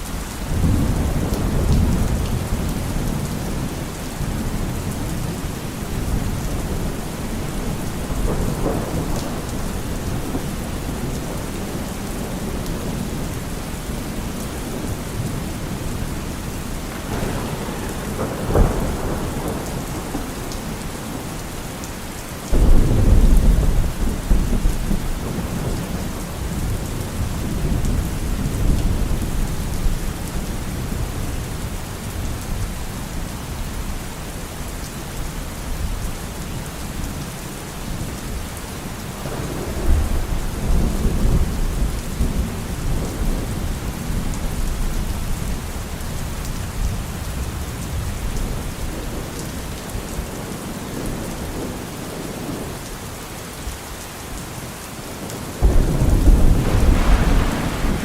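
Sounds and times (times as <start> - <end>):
steady rain: 0.0 - 58.0
rolling thunder: 0.5 - 21.8, 22.5 - 32.6, 39.2 - 52.7, 55.6 - 58.0.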